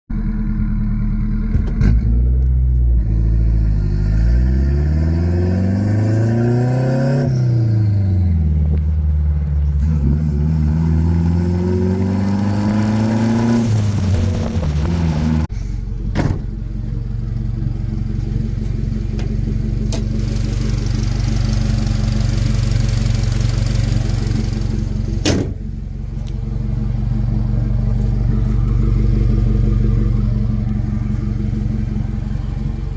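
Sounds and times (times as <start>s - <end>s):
car engine revving: 0.1s - 32.9s.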